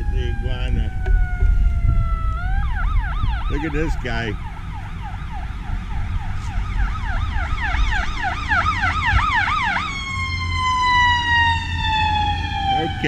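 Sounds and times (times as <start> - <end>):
emergency vehicle siren: 0.0 - 13.0
low rumble of traffic: 0.0 - 13.0.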